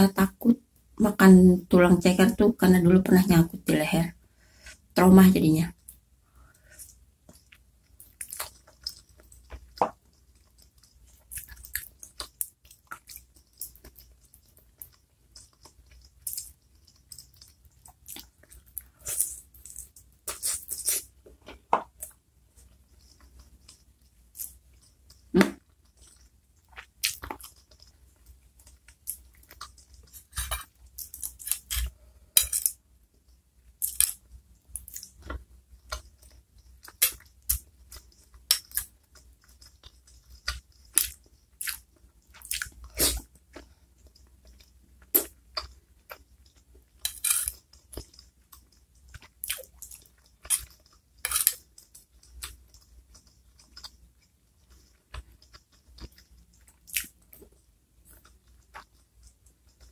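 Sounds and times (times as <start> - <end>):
chewing and lip smacking: 6.7 - 31.9, 32.6 - 59.9.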